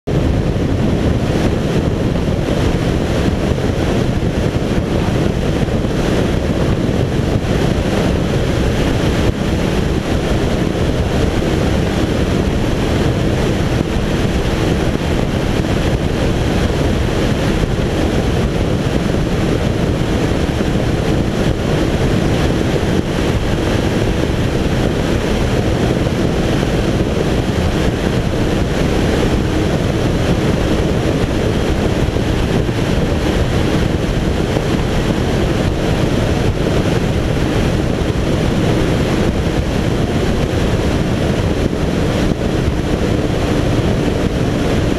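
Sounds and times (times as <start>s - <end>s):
wind buffeting microphone: 0.0s - 44.9s
water rushing: 0.1s - 44.9s.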